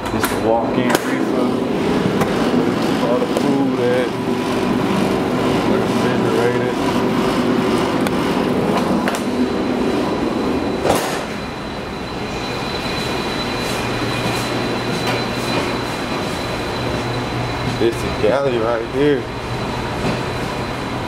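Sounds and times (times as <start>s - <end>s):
ventilation machinery drone: 0.0s - 21.0s
thin high whine: 0.4s - 21.0s.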